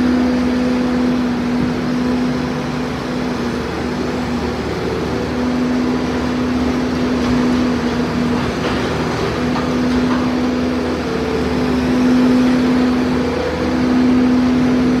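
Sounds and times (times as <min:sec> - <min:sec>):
diesel loader engine under load: 0:00.0 - 0:15.0.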